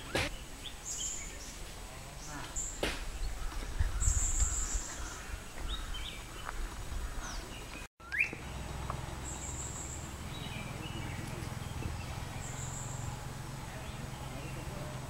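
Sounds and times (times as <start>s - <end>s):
birds chirping and whistling: 0.0s - 13.2s
low rumble of wind: 0.0s - 15.0s.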